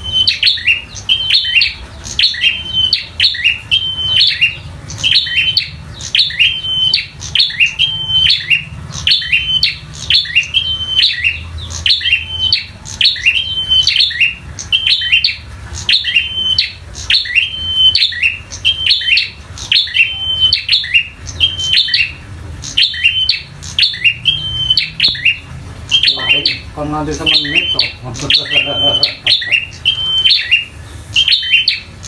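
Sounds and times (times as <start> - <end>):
songbird chirping and whistling: 0.0 - 32.0.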